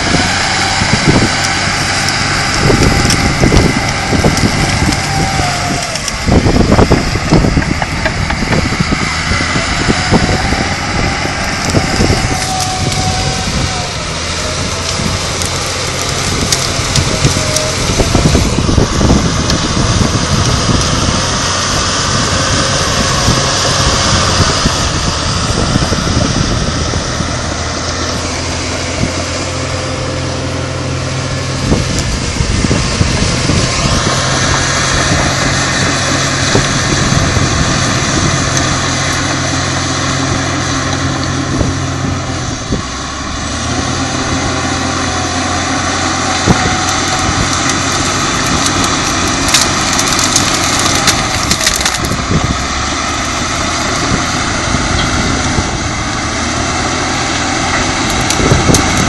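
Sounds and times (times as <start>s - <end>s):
branches cracking and snapping: 0.0s - 59.0s
bulldozer diesel engine under load: 0.0s - 59.0s.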